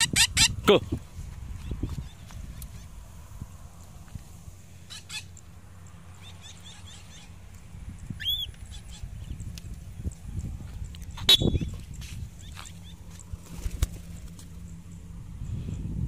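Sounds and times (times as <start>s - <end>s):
wind rumble on microphone: 0.0s - 4.7s, 6.7s - 16.0s
birds chirping: 0.0s - 15.8s.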